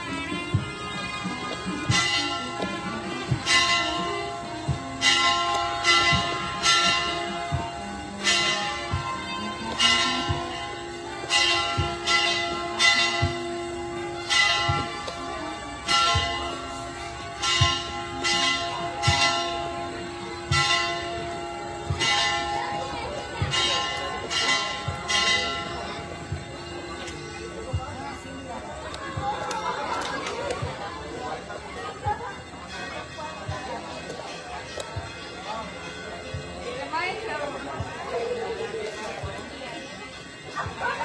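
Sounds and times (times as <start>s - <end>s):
church bells pealing: 0.0s - 41.0s.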